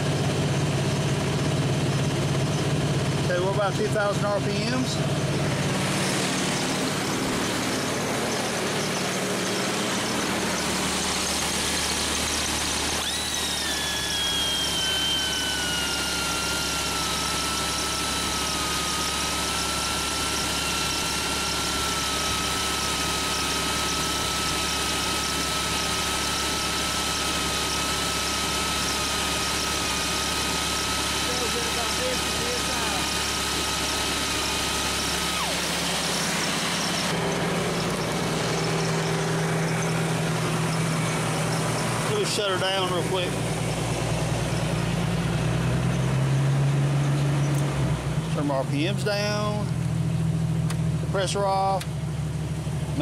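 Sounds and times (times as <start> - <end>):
engine running: 0.0 - 53.0
air die grinder whine: 0.9 - 51.9.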